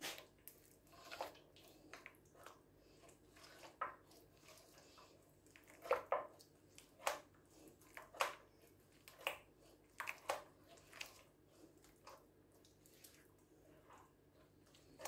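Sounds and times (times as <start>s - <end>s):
hand squelching wet batter: 0.0s - 15.0s.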